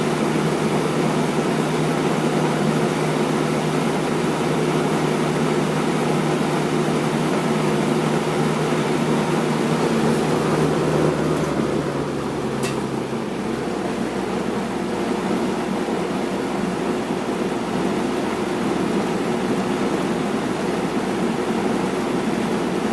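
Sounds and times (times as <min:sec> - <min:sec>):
box fan running: 0:00.0 - 0:22.9.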